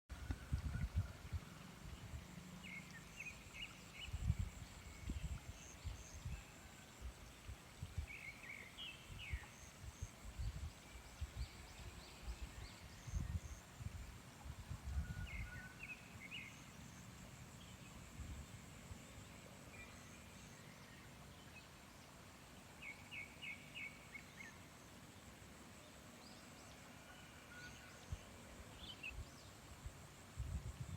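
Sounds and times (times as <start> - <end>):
faint steady high whine: 0.1 - 30.9.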